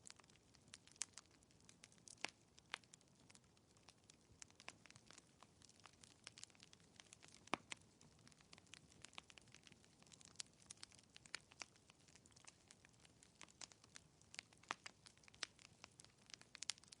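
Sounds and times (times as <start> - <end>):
logs crackling in fireplace: 0.0 - 17.0.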